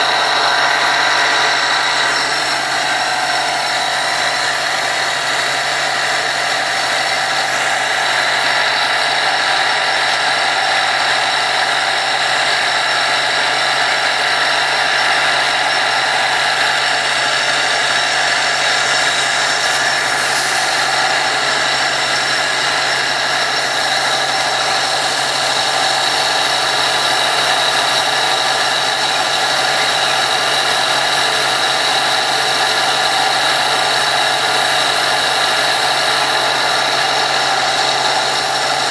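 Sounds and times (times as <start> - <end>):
motor drone: 0.0 - 38.9.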